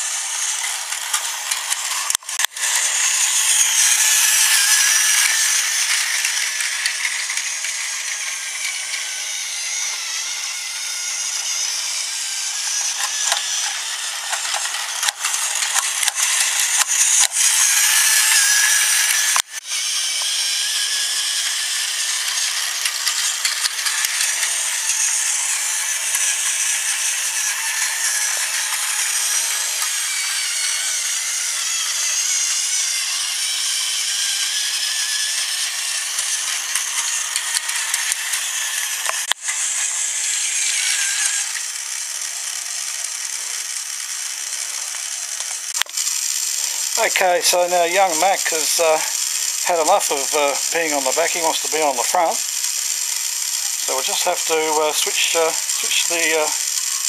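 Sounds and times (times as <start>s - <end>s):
toy train motor whirring and rattling: 0.0s - 57.0s.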